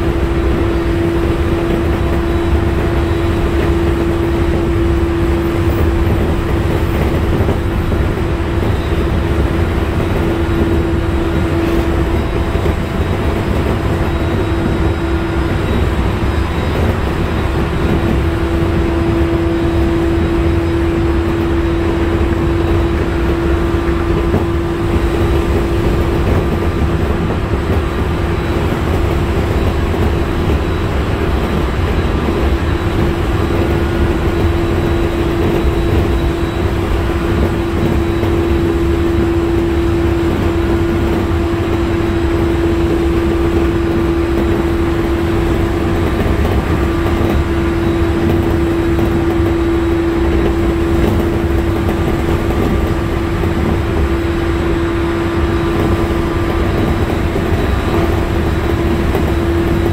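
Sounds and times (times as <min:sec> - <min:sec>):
traction motor whine: 0:00.0 - 0:59.9
wheels rumbling on rails: 0:00.0 - 0:59.9.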